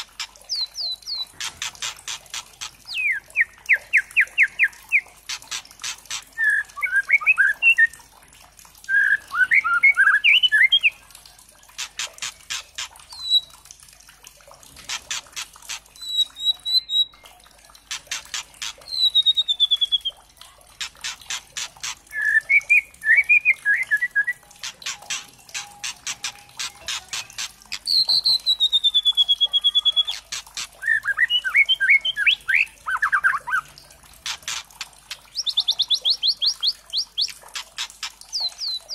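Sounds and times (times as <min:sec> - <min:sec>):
bird warbling and whistling: 0:00.0 - 0:07.9, 0:08.9 - 0:11.0, 0:11.8 - 0:13.6, 0:14.9 - 0:17.2, 0:17.9 - 0:20.2, 0:20.8 - 0:38.9
bird calling with rattling ticks: 0:00.0 - 0:38.9.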